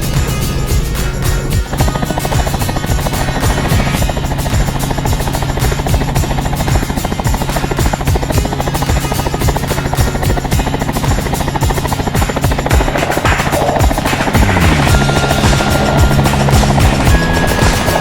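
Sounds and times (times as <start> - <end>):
helicopter engine drone: 0.0 - 18.0
helicopter rotor blades chopping: 0.0 - 18.0.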